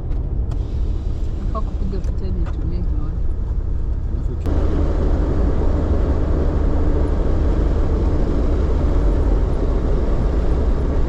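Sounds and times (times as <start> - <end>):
road and tyre noise: 0.0 - 11.0
vehicle engine rumble: 0.0 - 11.0.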